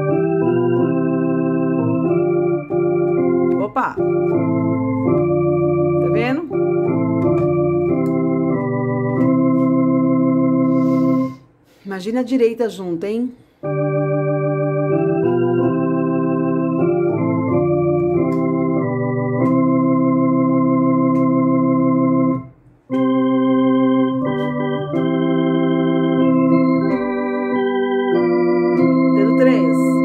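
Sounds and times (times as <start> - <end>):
electronic organ playing hymn chords: 0.0 - 11.6, 13.6 - 30.0.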